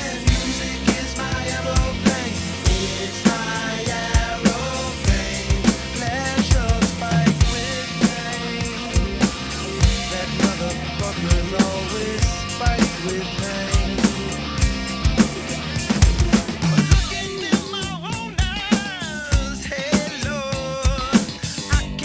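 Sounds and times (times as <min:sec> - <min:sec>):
drum kit playing a beat: 0:00.0 - 0:22.0
recorded rock song: 0:00.0 - 0:22.0.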